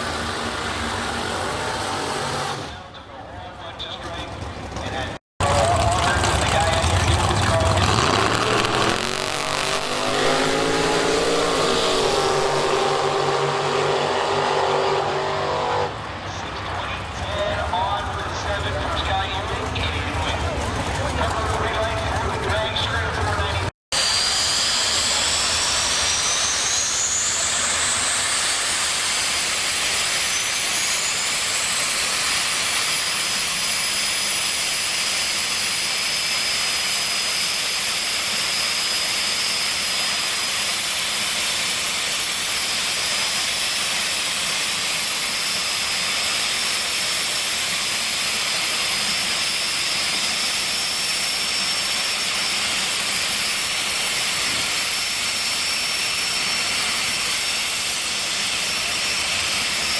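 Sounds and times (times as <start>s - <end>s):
turbine engine whining: 0.0s - 59.9s.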